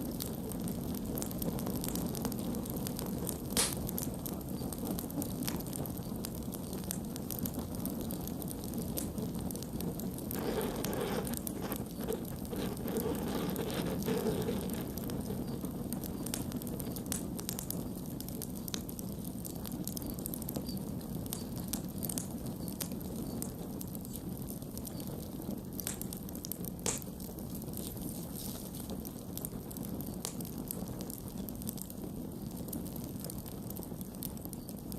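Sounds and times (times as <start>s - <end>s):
campfire flames rushing: 0.0s - 34.9s
fire crackling and popping: 0.0s - 34.9s.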